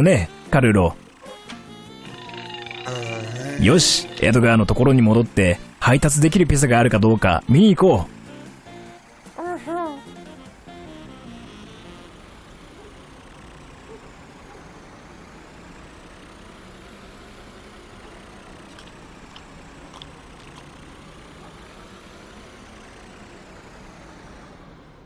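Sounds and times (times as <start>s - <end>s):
cartoon car engine running: 0.0s - 25.0s.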